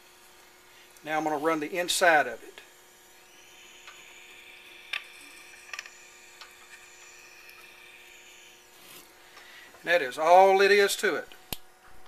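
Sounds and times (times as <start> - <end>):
lathe humming: 0.0 - 11.9.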